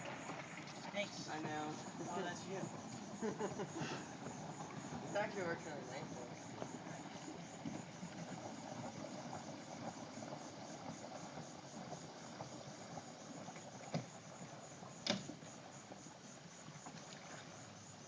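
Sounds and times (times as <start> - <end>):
faint crickets chirping: 0.0 - 18.0
rustle of water and boat: 0.0 - 18.0.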